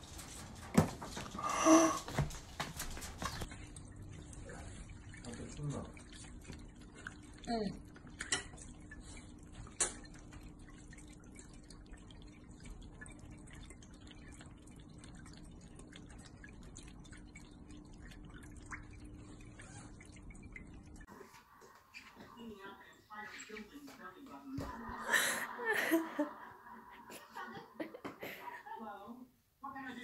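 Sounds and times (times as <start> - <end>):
water trickling and dripping: 0.0 - 28.0.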